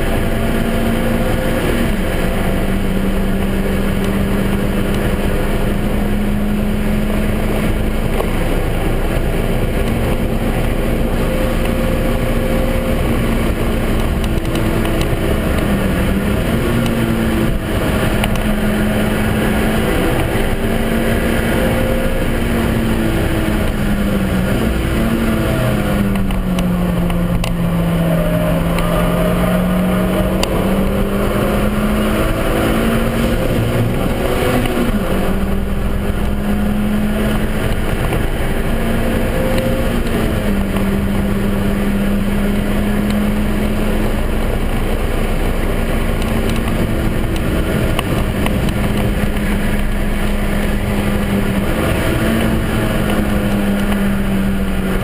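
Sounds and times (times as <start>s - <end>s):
car engine pulling: 0.0s - 55.0s
road and wind noise: 0.0s - 55.0s.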